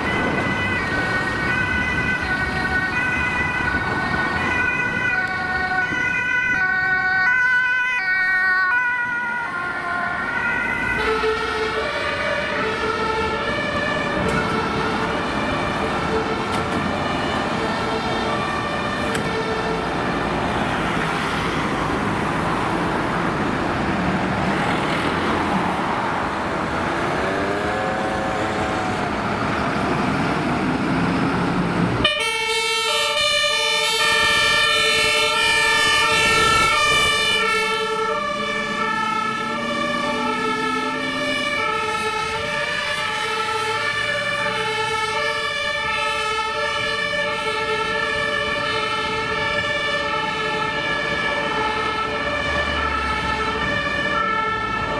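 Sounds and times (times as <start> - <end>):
truck engines: 0.0 - 54.9
two-tone fire engine sirens: 0.0 - 54.9.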